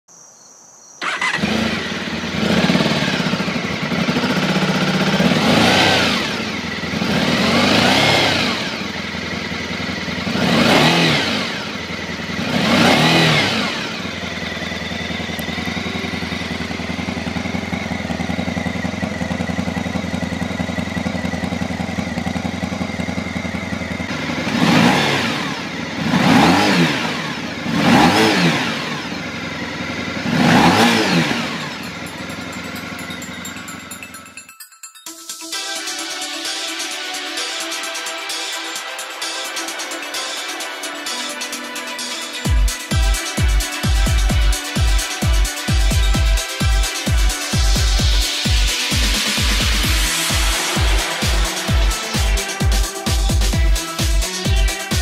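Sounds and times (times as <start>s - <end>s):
motorcycle engine revving and idling: 1.0s - 34.4s, 35.9s - 55.0s.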